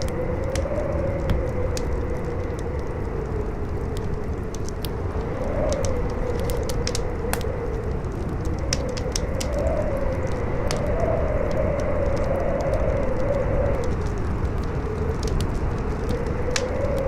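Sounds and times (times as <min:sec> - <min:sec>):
fire crackling and popping: 0:00.0 - 0:17.0
howling wind: 0:00.0 - 0:17.0.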